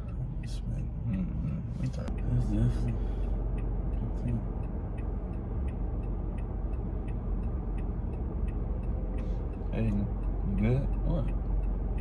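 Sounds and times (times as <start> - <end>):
car engine idling: 0.0 - 12.0
turn signal ticking: 0.0 - 12.0.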